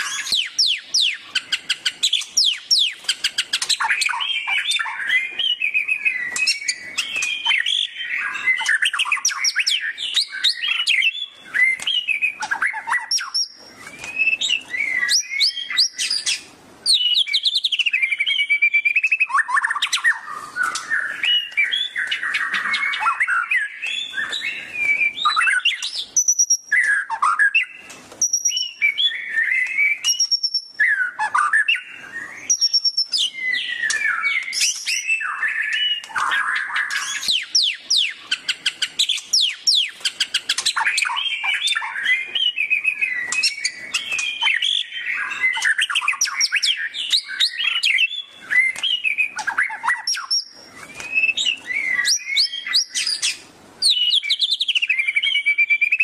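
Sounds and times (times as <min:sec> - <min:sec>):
songbird whistles and trills: 0:00.0 - 0:56.0.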